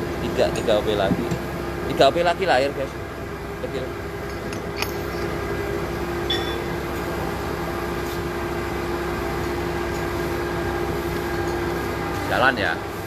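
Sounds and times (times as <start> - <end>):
milling machine hum: 0.0 - 13.0.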